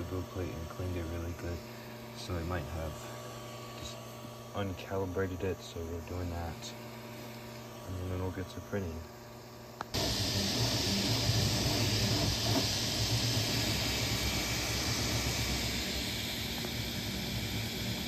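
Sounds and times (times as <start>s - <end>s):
cooling fans hissing: 0.0s - 18.0s
printer print head humming: 0.0s - 18.0s.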